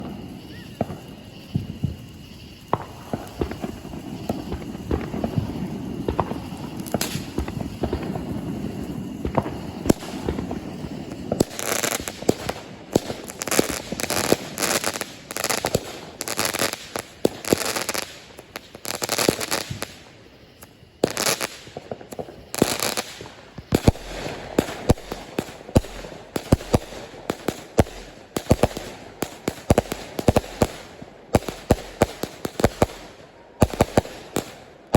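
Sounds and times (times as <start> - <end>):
fireworks booming: 0.0 - 20.0, 21.0 - 34.9
fireworks crackling bursts: 0.0 - 34.9.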